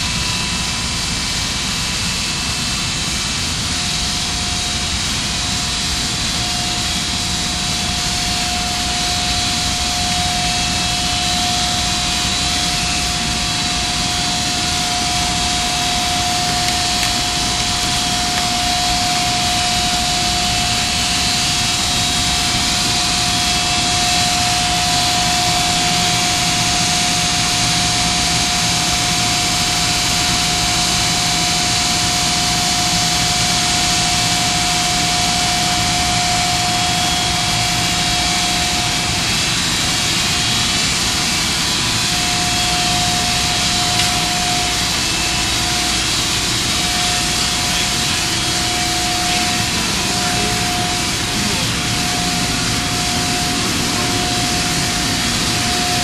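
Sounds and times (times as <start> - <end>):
industrial machinery whining: 0.0 - 56.0.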